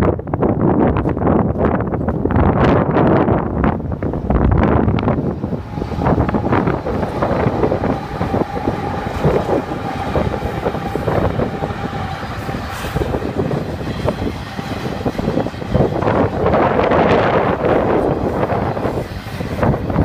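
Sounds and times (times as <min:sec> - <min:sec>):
diesel locomotives passing: 0:00.1 - 0:20.0.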